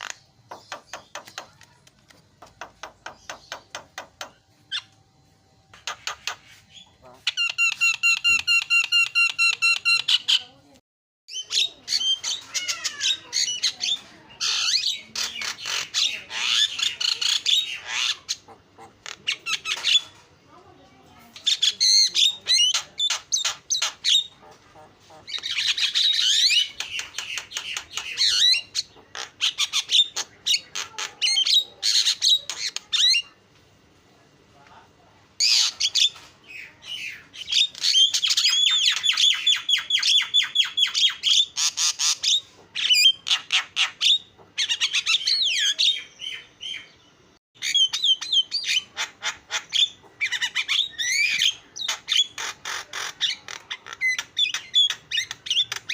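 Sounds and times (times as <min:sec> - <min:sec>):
bird chattering song: 0:00.0 - 0:05.0, 0:05.7 - 0:10.7, 0:11.3 - 0:20.2, 0:21.2 - 0:33.4, 0:35.4 - 0:55.9.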